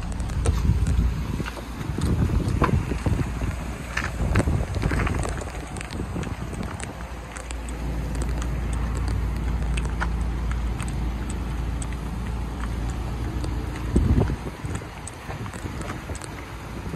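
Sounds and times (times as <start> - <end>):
road traffic hum: 0.0 - 16.9
wind buffeting microphone: 0.0 - 16.9.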